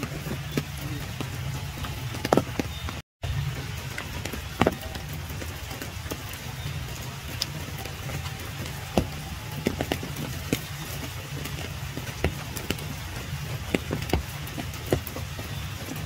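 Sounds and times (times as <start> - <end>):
low rain rumble: 0.0 - 16.0
rain drips and taps: 0.0 - 16.0.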